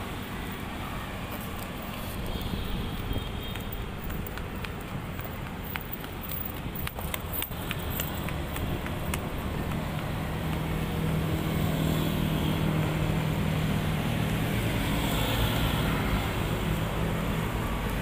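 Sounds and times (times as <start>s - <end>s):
low engine hum: 0.0s - 15.0s
traffic noise: 0.0s - 18.0s.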